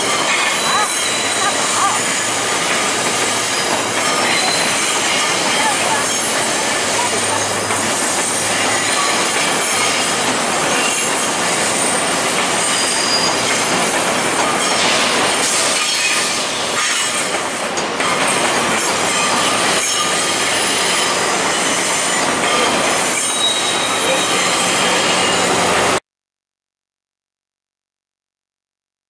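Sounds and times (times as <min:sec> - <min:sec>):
train cars running noise: 0:00.0 - 0:26.0
train wheels squealing on rails: 0:00.0 - 0:26.0.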